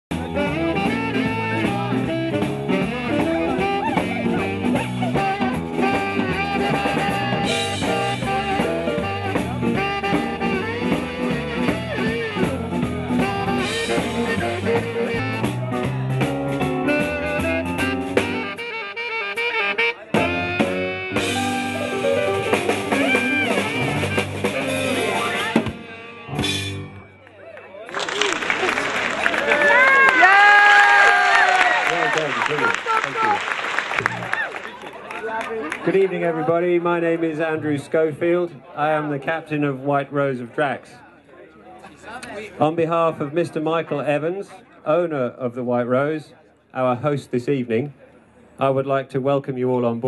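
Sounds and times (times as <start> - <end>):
band music with horns: 0.1 - 27.4, 28.0 - 40.9.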